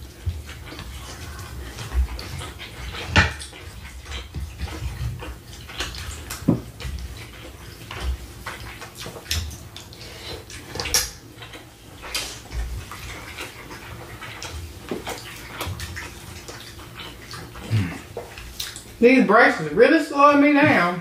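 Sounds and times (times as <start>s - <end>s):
chewing and eating mouth sounds: 0.0s - 19.0s.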